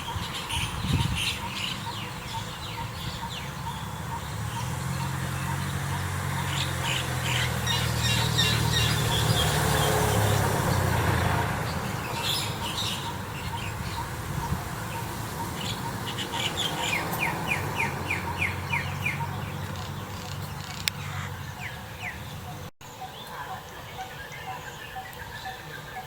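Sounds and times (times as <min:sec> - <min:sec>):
mynas calling and chirping: 0:00.0 - 0:26.0.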